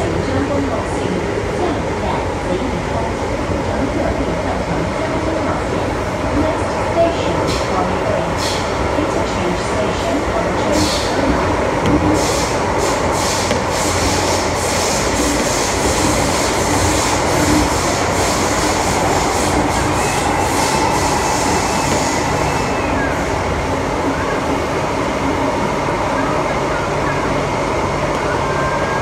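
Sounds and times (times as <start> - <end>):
train wheels rumbling: 0.0 - 26.0.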